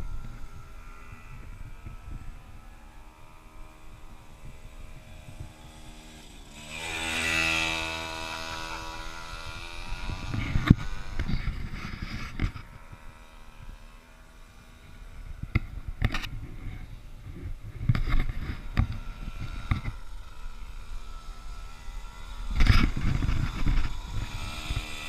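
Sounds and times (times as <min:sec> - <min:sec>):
small quad engine buzzing: 0:00.0 - 0:25.0.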